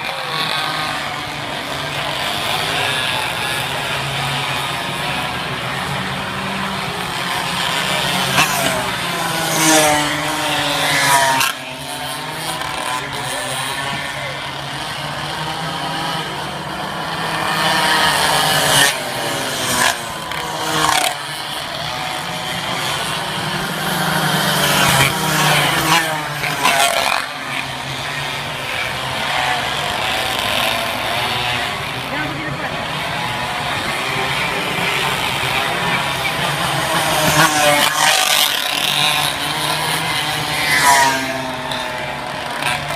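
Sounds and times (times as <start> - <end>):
background engine drone: 0.0 - 42.9
minibike engines passing at full throttle: 0.0 - 42.9.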